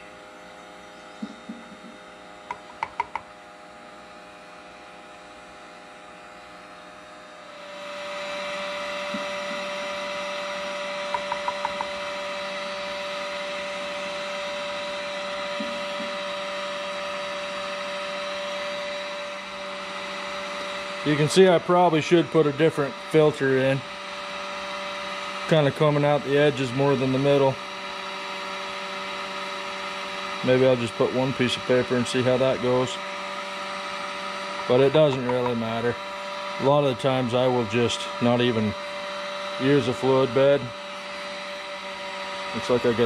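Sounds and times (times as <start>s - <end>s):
heat gun blower whirring: 0.0s - 43.0s.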